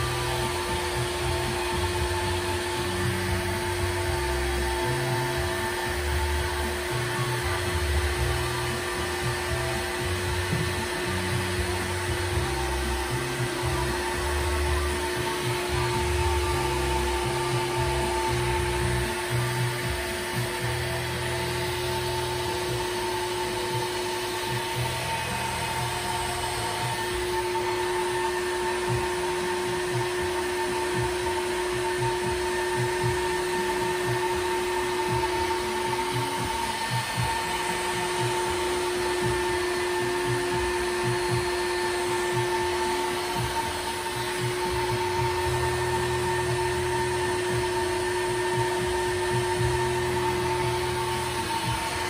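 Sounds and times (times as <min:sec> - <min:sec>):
electric drill motor whine: 0:00.0 - 0:52.0.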